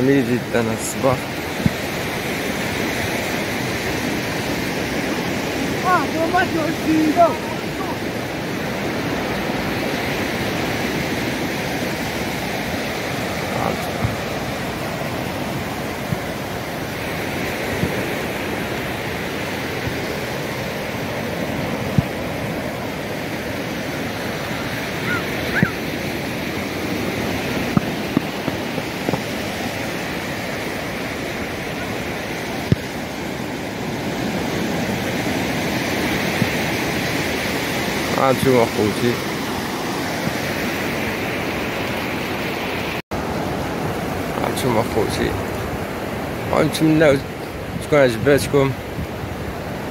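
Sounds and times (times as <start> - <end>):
ocean surf breaking on sand: 0.0 - 49.9.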